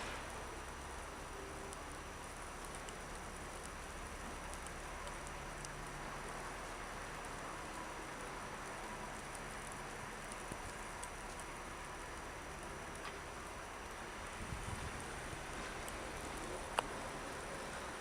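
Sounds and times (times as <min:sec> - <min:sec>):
distant traffic hum: 0:00.0 - 0:18.0
light pattering ticks: 0:00.0 - 0:18.0
snowstorm hiss: 0:00.0 - 0:18.0.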